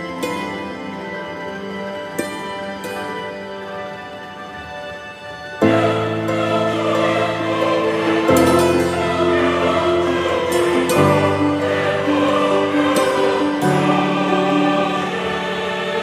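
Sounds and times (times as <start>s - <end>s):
slow held chords music: 0.0s - 16.0s.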